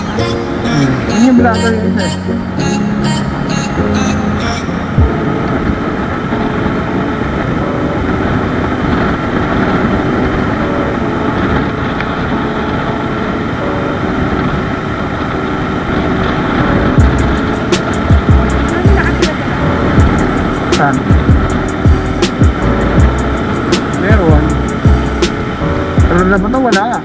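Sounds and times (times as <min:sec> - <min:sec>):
road noise: 0:00.0 - 0:27.0
motorcycle cruising: 0:04.9 - 0:27.0.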